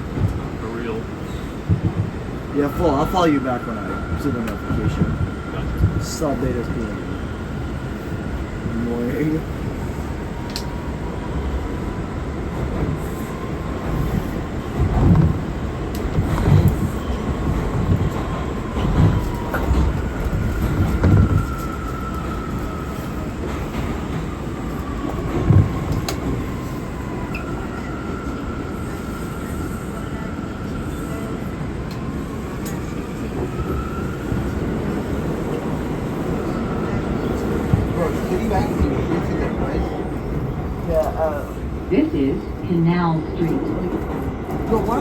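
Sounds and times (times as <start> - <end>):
subway wheels rumbling on rails: 0.0 - 45.0.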